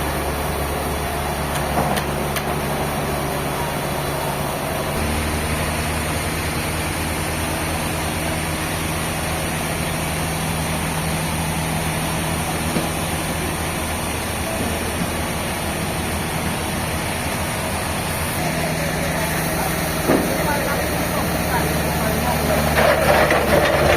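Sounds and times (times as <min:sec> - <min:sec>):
sawmill machinery running: 0:00.0 - 0:23.9.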